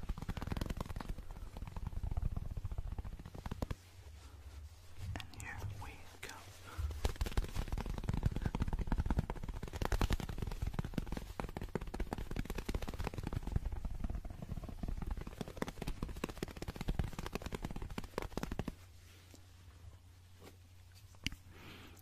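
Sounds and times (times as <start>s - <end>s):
rapid fingertip tapping and scratching: 0.0s - 4.2s, 5.2s - 18.9s.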